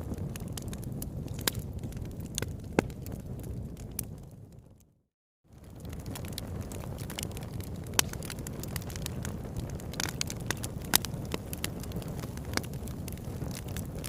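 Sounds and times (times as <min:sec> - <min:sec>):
campfire crackling: 0:00.0 - 0:04.8, 0:05.5 - 0:14.0
fire pops and snaps: 0:00.0 - 0:04.9, 0:05.6 - 0:14.0.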